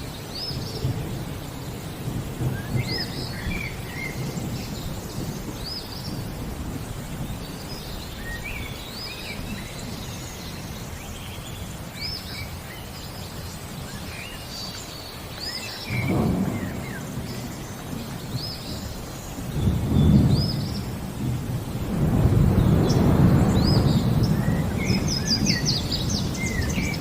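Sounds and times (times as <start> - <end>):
steady rain: 0.0 - 27.0
birds chirping: 0.1 - 27.0
thunder rumbling: 0.4 - 10.9, 15.8 - 27.0.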